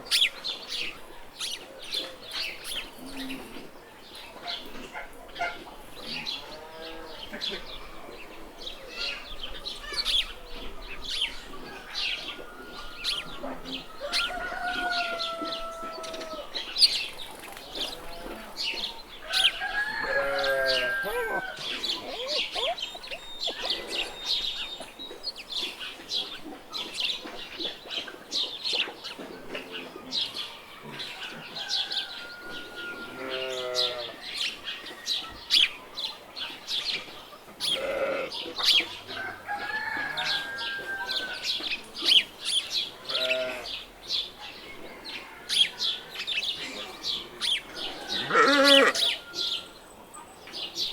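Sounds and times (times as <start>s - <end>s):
chickens calling: 0.0s - 50.9s
small birds chirping: 0.0s - 50.9s.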